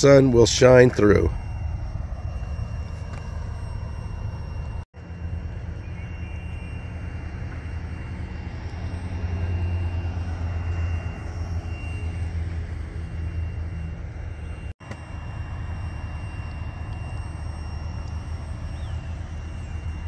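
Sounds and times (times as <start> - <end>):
distant engine rumble: 0.0 - 20.0.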